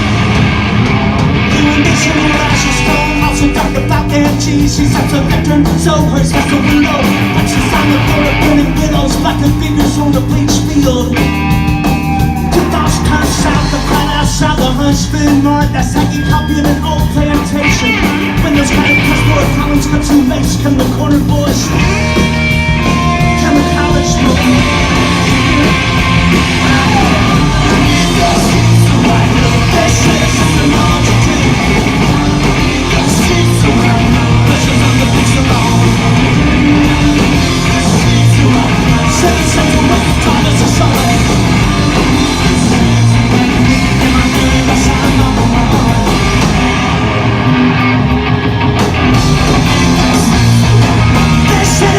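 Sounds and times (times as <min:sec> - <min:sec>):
bass guitar: 0:00.0 - 0:51.9
drums: 0:00.0 - 0:51.9
electric guitars: 0:00.0 - 0:51.9.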